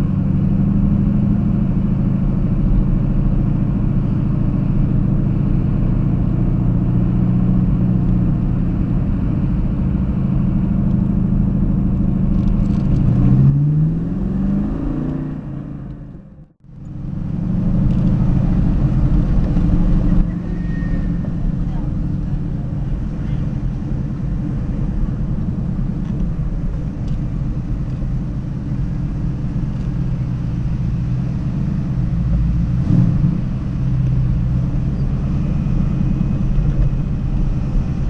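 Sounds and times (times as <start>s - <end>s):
car engine running: 0.0s - 38.0s.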